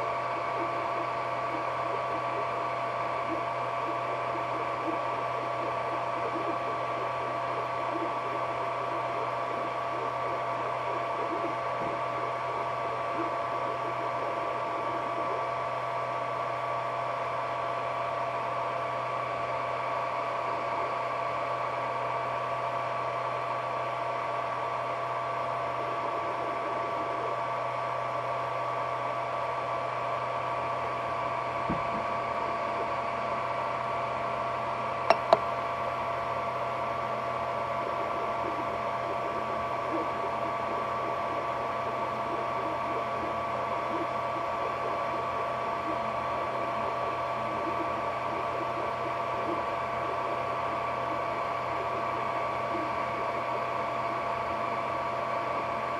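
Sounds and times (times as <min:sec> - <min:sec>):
low hum and hiss: 0:00.0 - 0:55.9
printer two-tone whine: 0:00.0 - 0:55.9.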